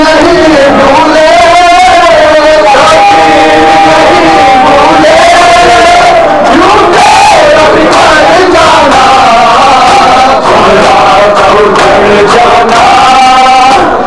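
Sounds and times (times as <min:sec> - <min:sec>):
men chanting together: 0:00.0 - 0:14.0.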